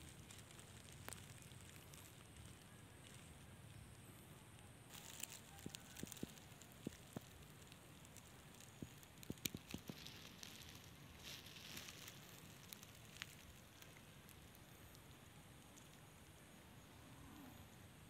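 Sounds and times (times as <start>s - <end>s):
small clicks and crackles: 0.0s - 16.5s.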